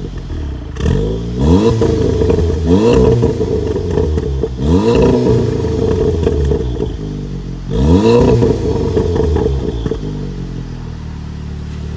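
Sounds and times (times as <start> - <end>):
car engine revving and idling: 0.0 - 11.9
exhaust crackles and pops: 0.0 - 11.9.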